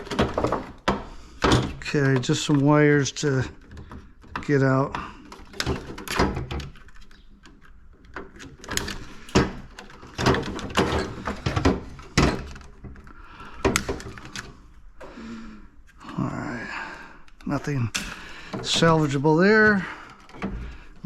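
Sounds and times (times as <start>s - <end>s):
hands and tools clattering: 0.0s - 21.0s.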